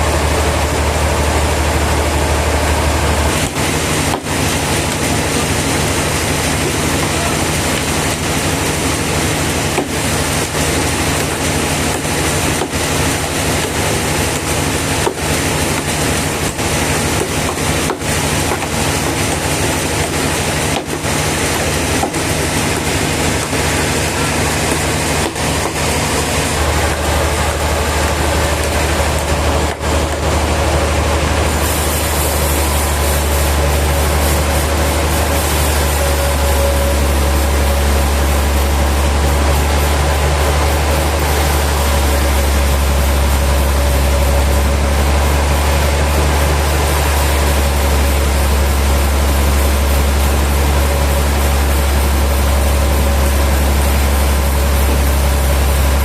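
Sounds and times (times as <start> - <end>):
low engine-like hum: 0.0 - 56.0
sawmill machinery din: 0.0 - 56.0.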